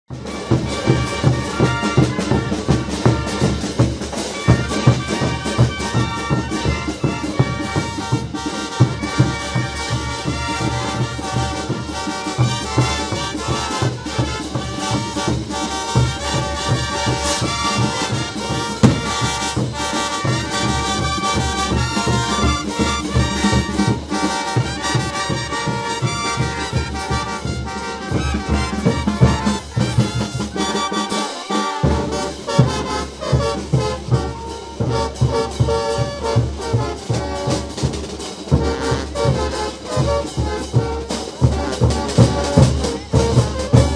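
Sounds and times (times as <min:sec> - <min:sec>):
brass band playing dance music: 0:00.1 - 0:43.9.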